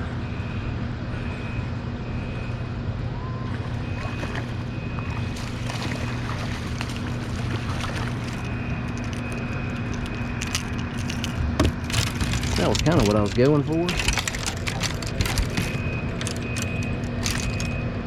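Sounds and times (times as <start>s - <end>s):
wind: 0.0s - 18.0s
water noise: 3.4s - 18.0s.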